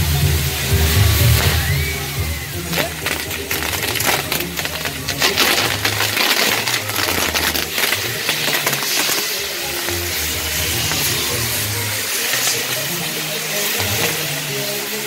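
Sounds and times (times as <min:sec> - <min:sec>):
fireworks crackling: 0:00.0 - 0:15.0
fireworks hissing: 0:00.0 - 0:15.0.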